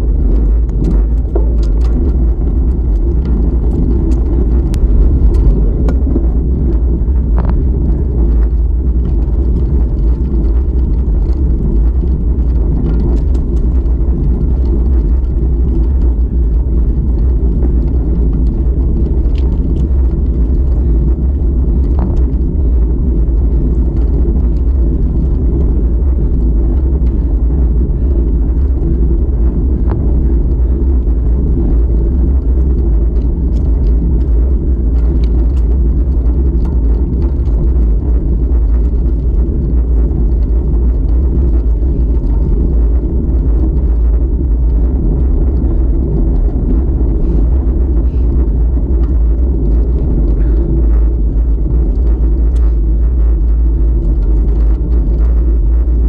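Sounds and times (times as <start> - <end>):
tyres rolling on asphalt: 0.0 - 56.0
wind buffeting microphone: 0.0 - 56.0.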